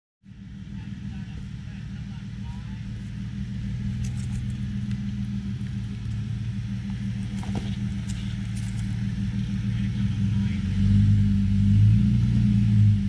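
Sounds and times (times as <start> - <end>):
car engine running at low revs: 0.2 - 13.0.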